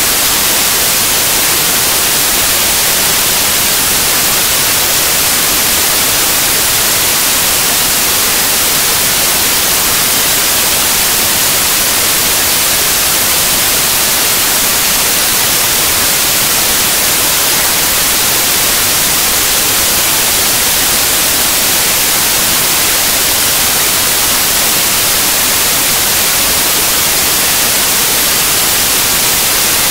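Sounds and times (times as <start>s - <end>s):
white noise hiss: 0.0s - 29.9s.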